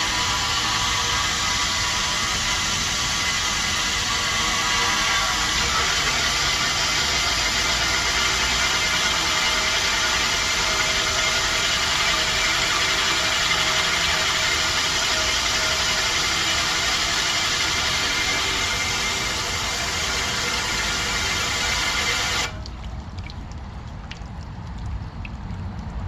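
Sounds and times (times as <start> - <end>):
condenser fan air rushing: 0.0 - 23.2
air conditioner humming: 0.0 - 23.6.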